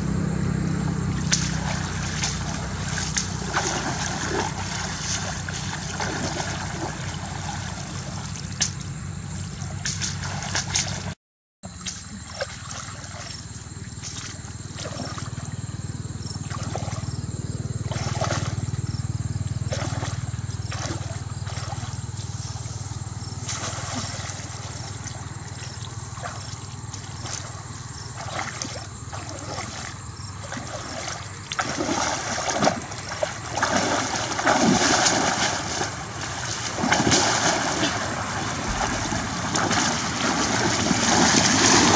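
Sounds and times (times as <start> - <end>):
water sloshing and splashing: 1.1 - 41.9.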